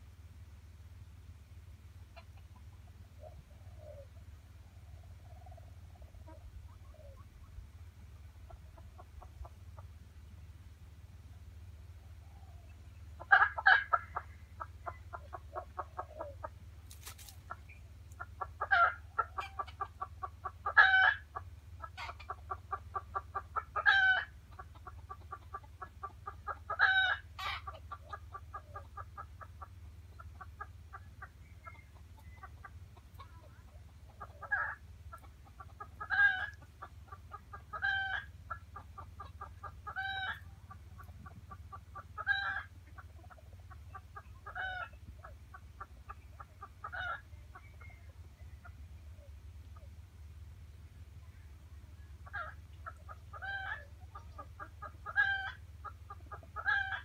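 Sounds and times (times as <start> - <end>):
hen clucking: 2.0 - 10.4, 11.2 - 50.1, 51.1 - 57.0.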